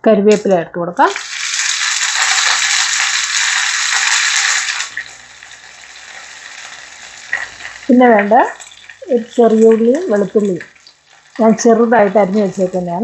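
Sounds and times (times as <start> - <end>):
mustard seeds popping: 0.3 - 13.0
leaves sizzling in hot oil: 1.0 - 13.0.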